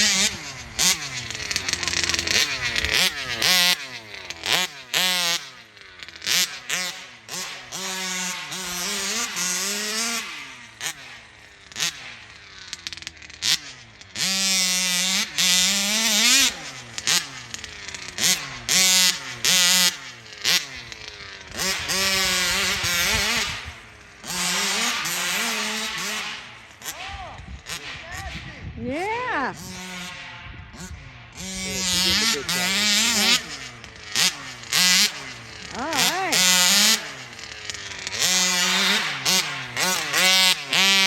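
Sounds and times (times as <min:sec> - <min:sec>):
engine throttle blips: 0:00.0 - 0:41.0
two-stroke engine revving: 0:00.0 - 0:41.0.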